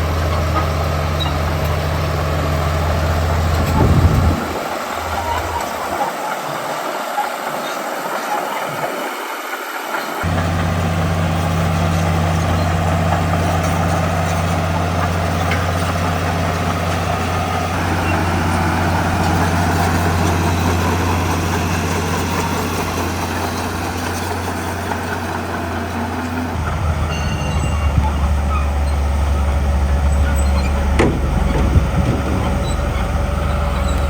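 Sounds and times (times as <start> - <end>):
heavy diesel engine running: 0.0 - 7.0, 10.2 - 34.0.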